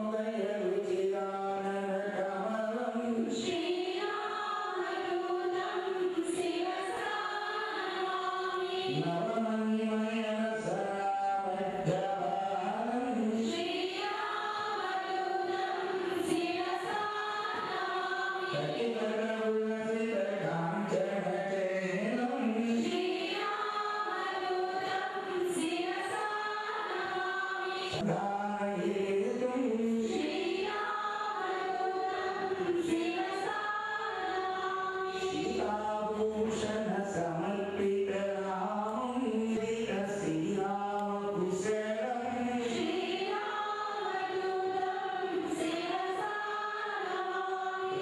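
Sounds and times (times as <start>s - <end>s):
women singing a hymn together: 0.0s - 19.6s, 20.9s - 36.8s, 41.0s - 48.0s.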